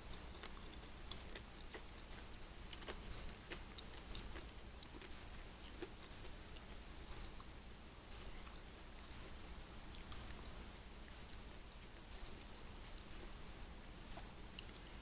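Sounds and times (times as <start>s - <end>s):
faint chewing with mouth clicks: 0.0s - 7.6s, 8.2s - 15.0s
low steady background hum: 0.0s - 15.0s.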